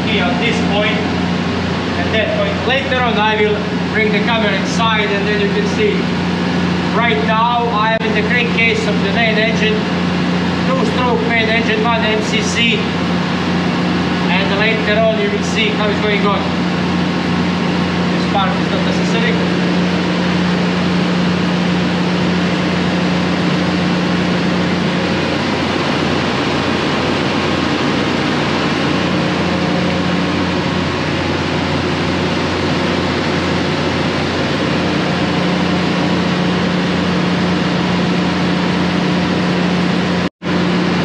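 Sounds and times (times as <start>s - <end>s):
diesel engine drone: 0.0s - 41.0s.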